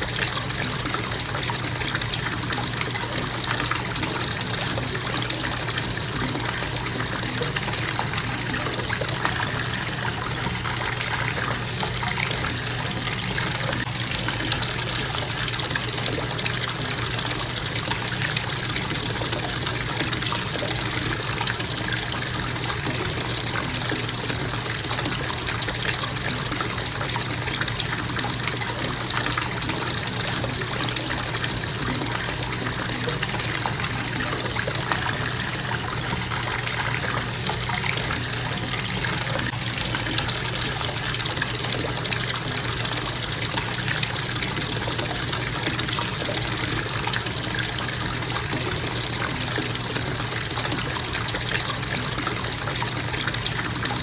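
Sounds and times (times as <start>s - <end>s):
faucet water splashing into tub: 0.0s - 54.0s.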